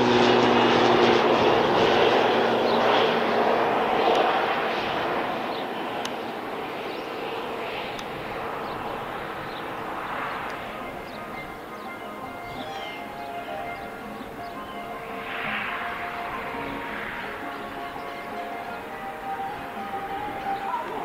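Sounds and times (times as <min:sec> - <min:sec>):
jet engines roaring past: 0:00.0 - 0:21.0.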